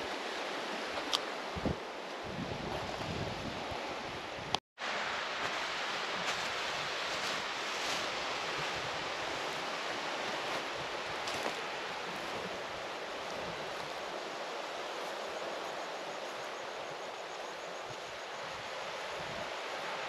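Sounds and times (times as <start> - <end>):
surf washing onto beach: 0.0 - 20.0.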